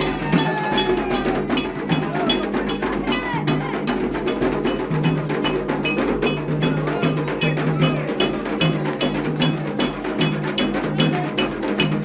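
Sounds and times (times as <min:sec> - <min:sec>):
hand drums: 0:00.0 - 0:12.0.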